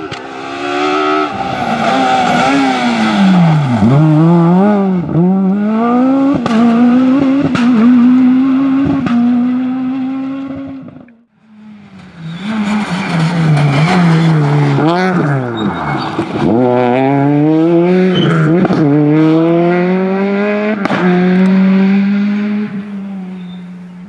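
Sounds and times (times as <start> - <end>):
rally car engine at high revs: 0.0 - 24.0
second rally car engine: 0.0 - 24.0.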